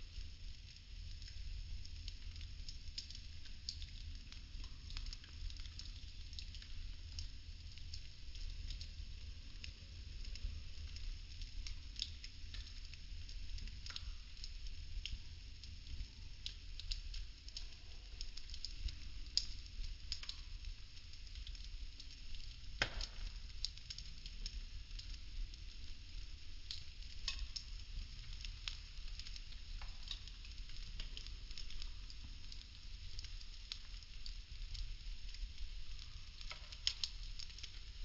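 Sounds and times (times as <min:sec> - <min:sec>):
wooden sticks crackling in fire: 0:00.0 - 0:38.0.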